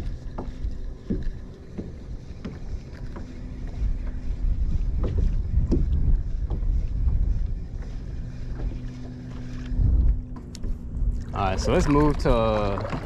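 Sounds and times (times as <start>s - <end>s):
water moving against kayak: 0.0s - 13.0s
wind rumbling on microphone: 0.0s - 13.0s.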